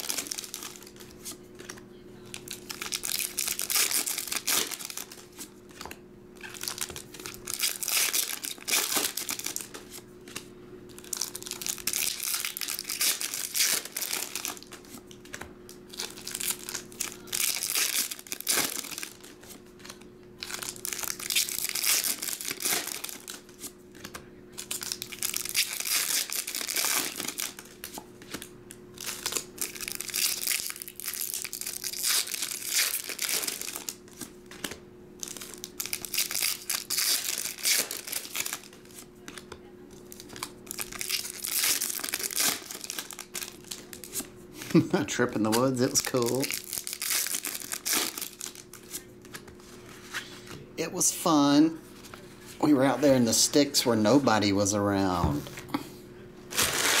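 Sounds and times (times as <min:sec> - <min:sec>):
cards and foil wrappers crinkling: 0:00.0 - 0:55.2, 0:56.5 - 0:57.0
steady low hum: 0:00.0 - 0:57.0.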